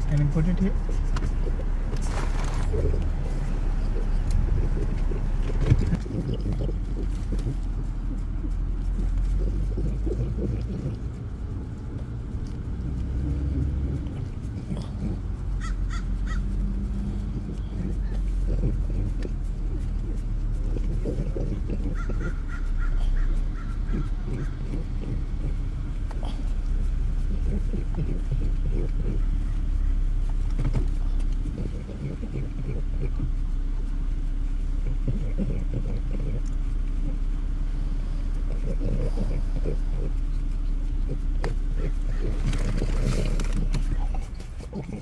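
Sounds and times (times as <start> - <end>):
low car rumble: 0.0 - 45.0
dog lapping from paper cup: 0.1 - 37.2, 38.4 - 45.0.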